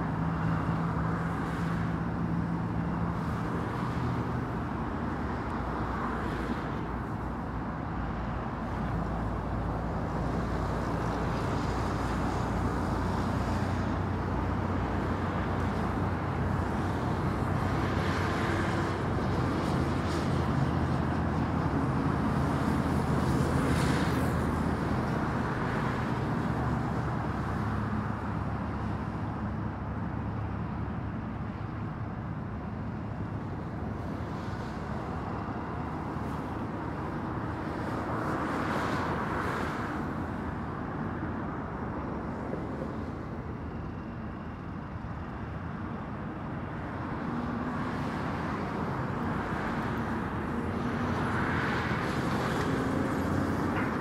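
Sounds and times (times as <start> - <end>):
highway traffic: 0.0 - 54.0.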